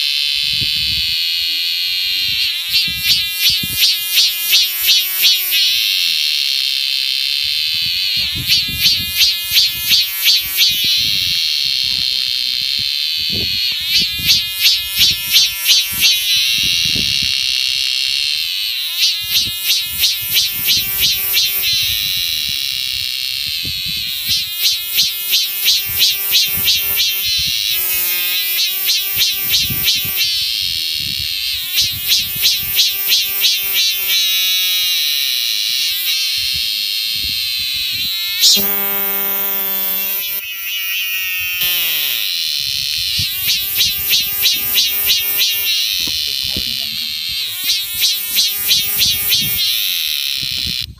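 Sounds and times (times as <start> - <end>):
cicada calling: 0.0 - 50.9
steady high buzz: 0.0 - 50.9.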